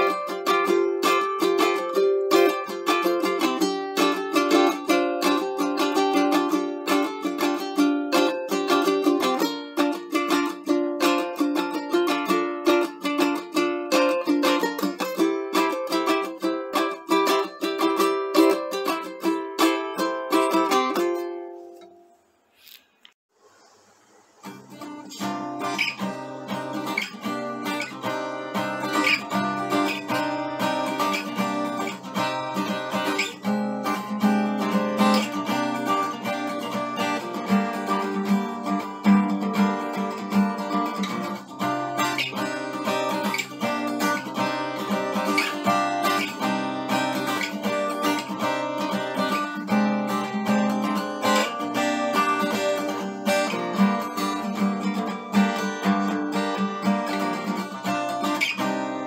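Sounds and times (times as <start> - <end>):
acoustic guitar strumming: 0.0 - 22.6, 24.1 - 59.0.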